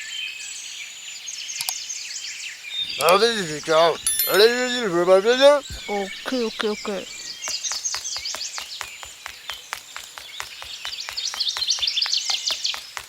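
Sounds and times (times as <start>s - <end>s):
small birds twittering: 0.1s - 13.0s.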